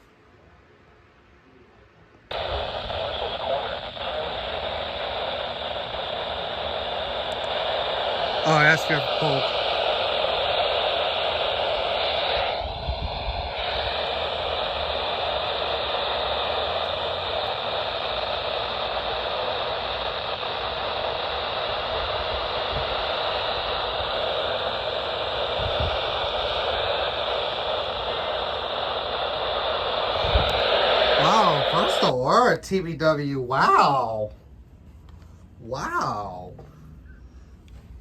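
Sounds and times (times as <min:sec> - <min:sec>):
radio static hiss: 0:02.3 - 0:34.3, 0:35.6 - 0:37.4.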